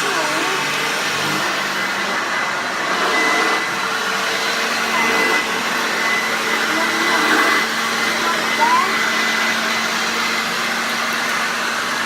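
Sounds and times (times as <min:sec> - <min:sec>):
upright vacuum cleaner running: 0:00.0 - 0:12.0.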